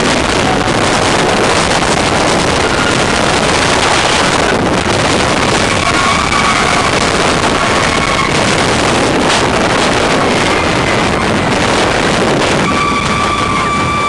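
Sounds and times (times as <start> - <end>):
roller coaster rumbling: 0.0 - 14.0
wind rushing over microphone: 0.0 - 14.0.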